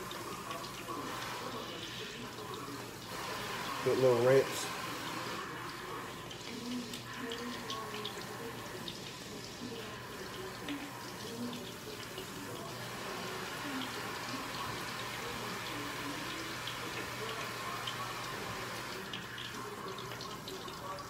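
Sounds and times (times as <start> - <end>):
faucet running into sink: 0.0 - 21.0.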